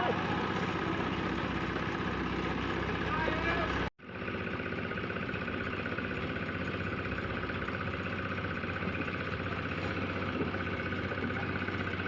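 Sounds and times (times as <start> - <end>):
machine engine humming: 0.0 - 12.0.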